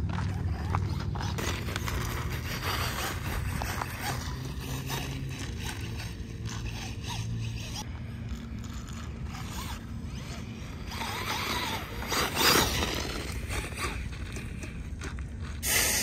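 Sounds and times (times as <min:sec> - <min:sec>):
electric motor whining: 0:00.0 - 0:15.1.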